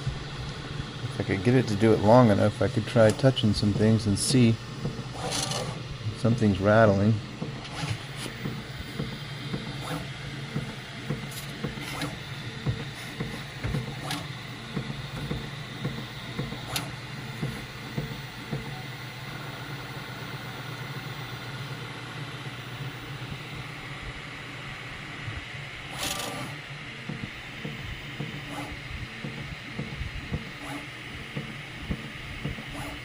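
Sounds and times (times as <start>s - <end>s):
printer motors and fans whining: 0.0s - 33.0s.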